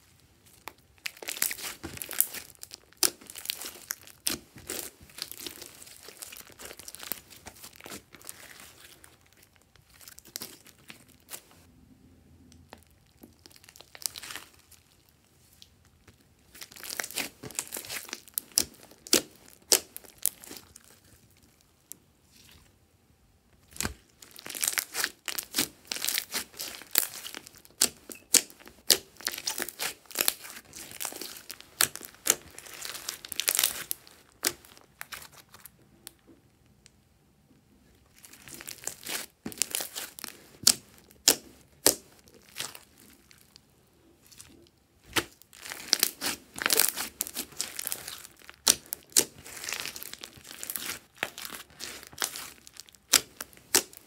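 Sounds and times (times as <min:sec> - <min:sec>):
slime crackling and popping: 0:00.5 - 0:11.6, 0:12.6 - 0:21.8, 0:23.6 - 0:36.2, 0:38.1 - 0:43.6, 0:44.2 - 0:54.0.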